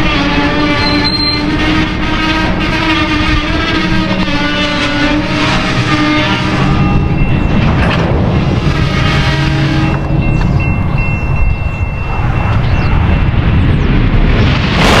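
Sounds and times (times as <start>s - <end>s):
metallic squeal: 0.0s - 8.0s, 8.6s - 13.2s
train wheels rumbling on rail: 0.0s - 15.0s.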